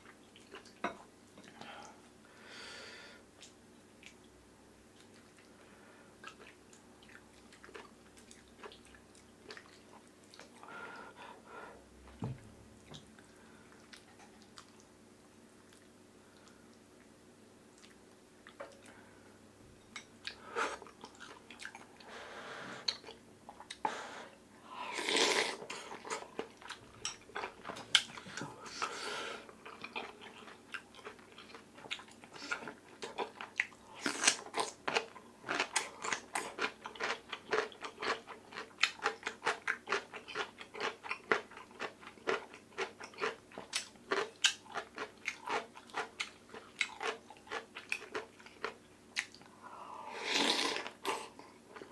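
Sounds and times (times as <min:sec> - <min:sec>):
close-miked eating sounds: 0:00.0 - 0:02.3, 0:03.2 - 0:11.5, 0:12.8 - 0:51.9.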